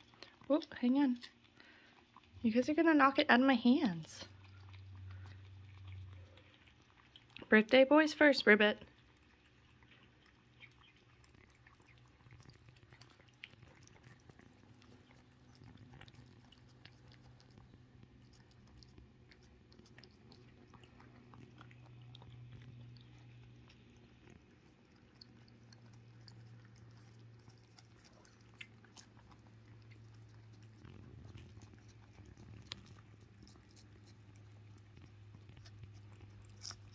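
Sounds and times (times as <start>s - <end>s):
cats chewing and licking: 0.0s - 36.9s
low steady hum: 0.0s - 36.9s.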